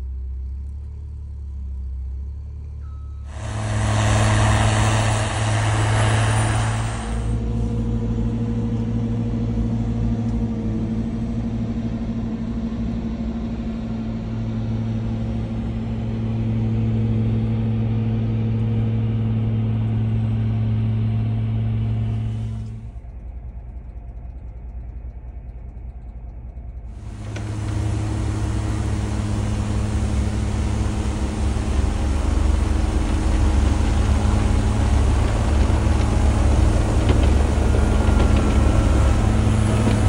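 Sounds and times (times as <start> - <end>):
wheel loader engine droning: 0.0 - 25.2, 26.9 - 40.0.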